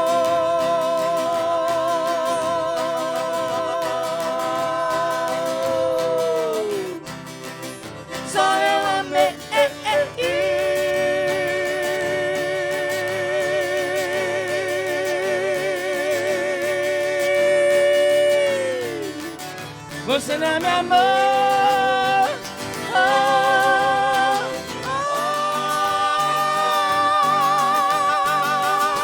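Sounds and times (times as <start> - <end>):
guitar: 0.0 - 29.0
harmonica fill: 0.0 - 29.0
two voices singing in harmony: 0.0 - 29.0.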